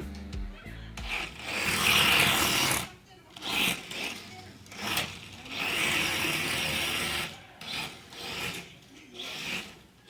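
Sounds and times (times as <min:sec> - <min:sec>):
toy car electric motor whirring: 0:01.1 - 0:10.0.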